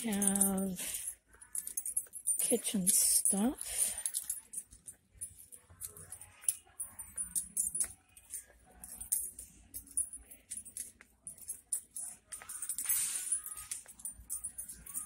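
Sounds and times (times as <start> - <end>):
metallic jingling and clicking: 0.0 - 15.0.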